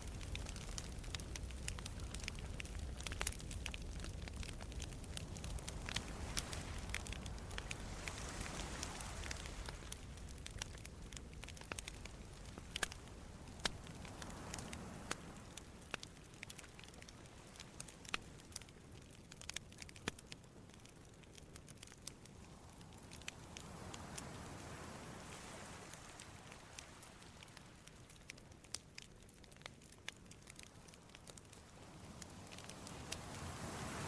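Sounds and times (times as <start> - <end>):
sea waves on shore: 0.0 - 18.7, 22.3 - 28.7, 30.4 - 34.0
campfire crackling and popping: 0.0 - 34.0.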